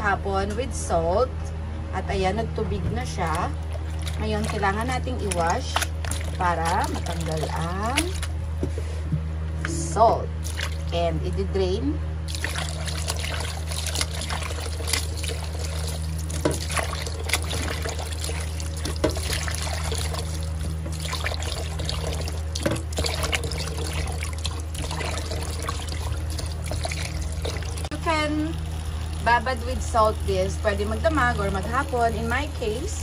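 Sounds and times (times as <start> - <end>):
steady low hum: 0.0 - 33.0
tap water running into a bowl: 3.1 - 8.4, 10.4 - 10.9, 12.3 - 33.0.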